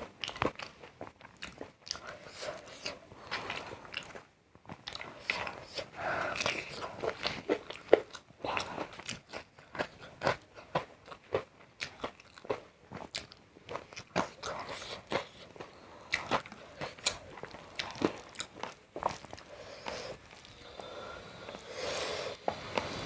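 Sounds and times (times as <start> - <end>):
person chewing crisp food: 0.0 - 22.9.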